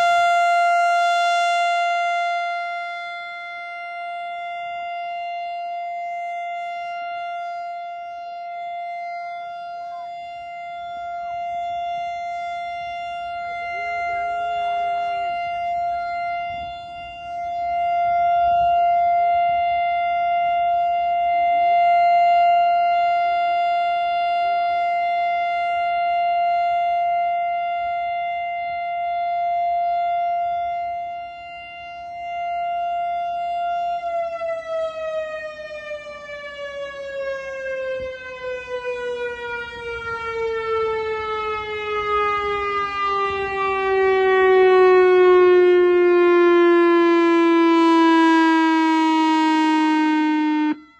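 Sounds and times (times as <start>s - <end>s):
warning siren: 0.0s - 50.9s.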